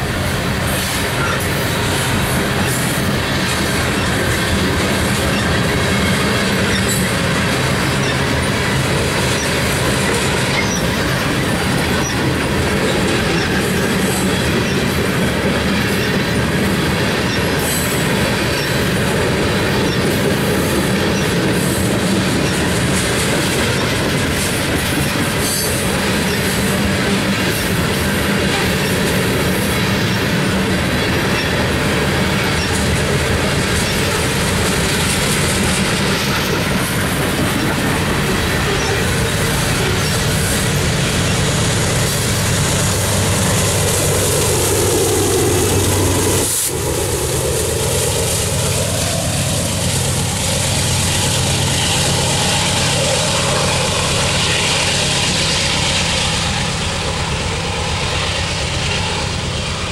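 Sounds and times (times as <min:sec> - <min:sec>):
diesel locomotive engine: 0:00.0 - 0:59.9
freight train wheels clacking: 0:00.0 - 0:59.9.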